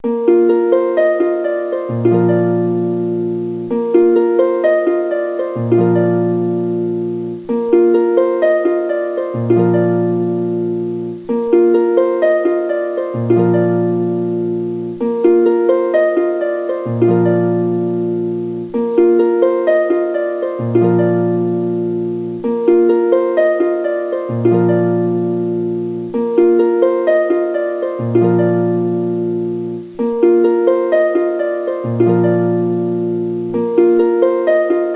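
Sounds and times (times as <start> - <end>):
plucked-string notes: 0.0 - 34.9.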